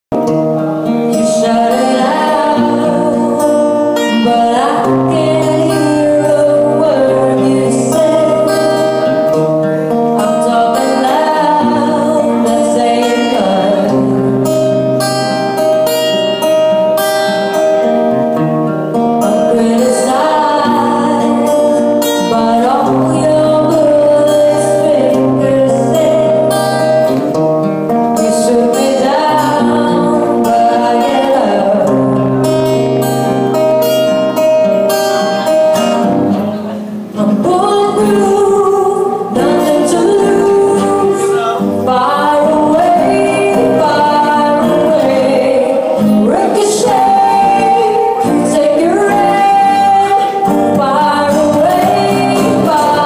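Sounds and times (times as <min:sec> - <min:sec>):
guitar: 0:00.0 - 0:53.0
person singing: 0:00.2 - 0:17.5, 0:19.2 - 0:27.3, 0:28.1 - 0:34.3, 0:35.2 - 0:53.0.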